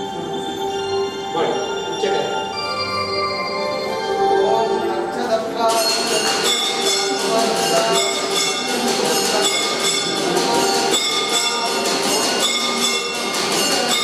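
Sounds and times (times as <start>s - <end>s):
bells ringing rapidly: 0.0s - 14.0s.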